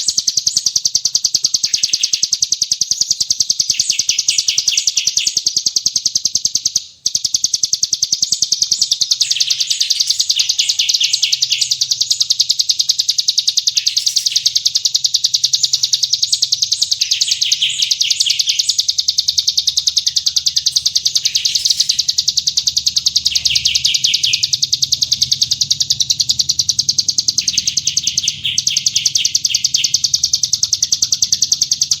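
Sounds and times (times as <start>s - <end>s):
lower rattling bird trills: 0.0s - 32.0s
songbirds chirping and trilling: 0.0s - 32.0s.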